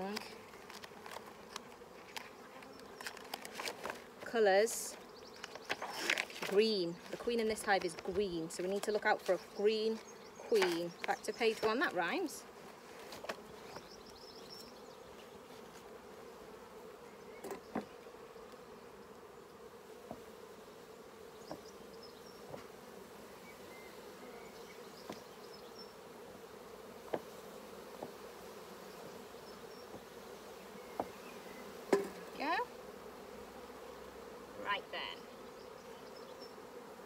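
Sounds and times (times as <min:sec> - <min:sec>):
bees buzzing: 0:00.0 - 0:37.0.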